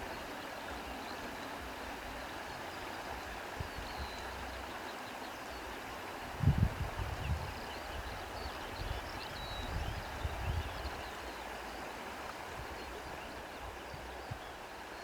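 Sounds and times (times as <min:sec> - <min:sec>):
flowing stream: 0:00.0 - 0:15.0.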